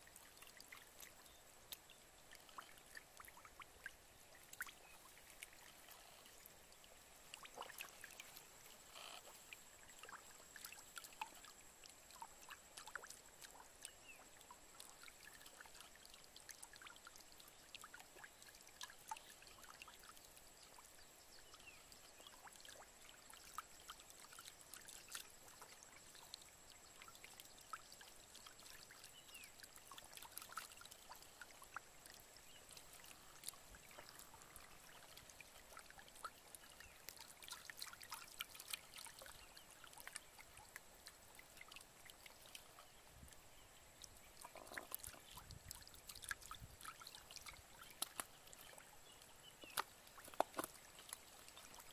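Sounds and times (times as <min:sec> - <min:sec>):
water trickling and splashing: 0:00.0 - 0:51.9.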